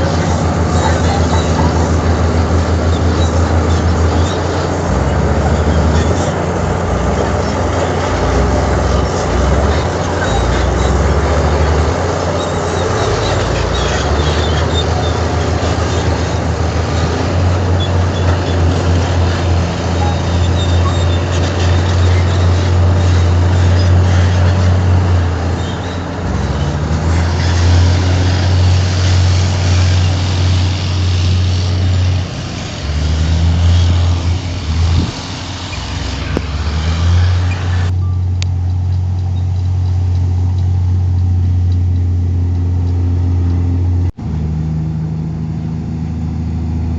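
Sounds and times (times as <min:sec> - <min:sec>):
heavy diesel machinery engine drone: 0:00.0 - 0:46.9.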